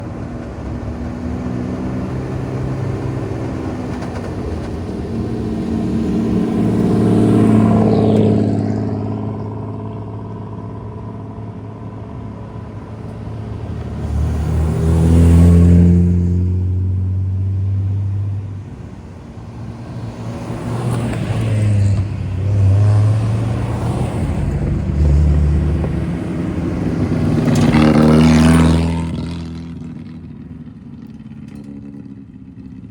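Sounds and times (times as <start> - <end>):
cars with loud exhausts driving by: 0.0 - 32.9.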